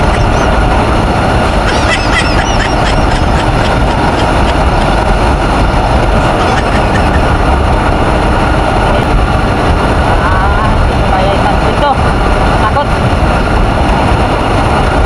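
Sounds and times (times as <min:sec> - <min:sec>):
road noise: 0:00.0 - 0:15.0
scooter engine running: 0:00.0 - 0:15.0
wind on microphone: 0:00.0 - 0:15.0.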